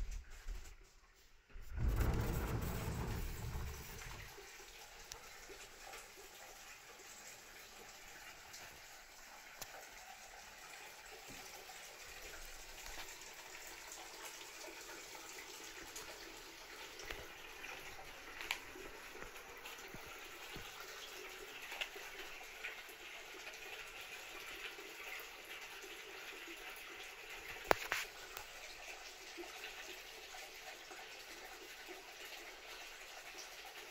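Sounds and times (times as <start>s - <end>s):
water trickling into bath: 1.6s - 33.9s
water dripping: 1.7s - 33.9s.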